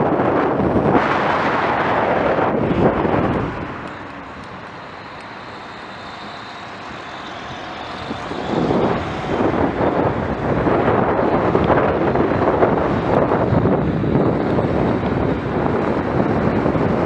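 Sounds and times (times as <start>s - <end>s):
car engine and tyres: 0.0s - 17.0s
road traffic: 0.0s - 17.0s
wind buffeting microphone: 0.0s - 17.0s.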